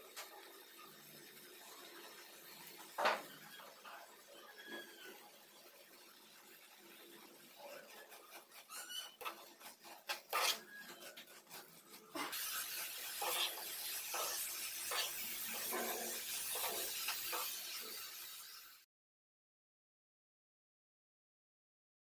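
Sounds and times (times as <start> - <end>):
spatula scraping a pan: 0.2 - 18.7.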